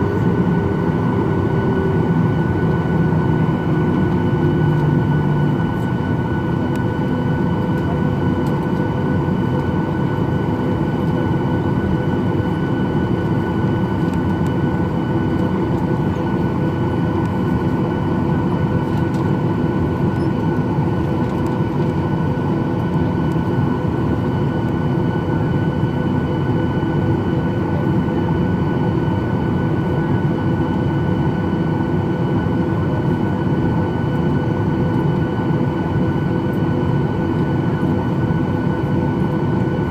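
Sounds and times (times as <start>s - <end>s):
jet engines heard inside cabin: 0.0s - 39.9s.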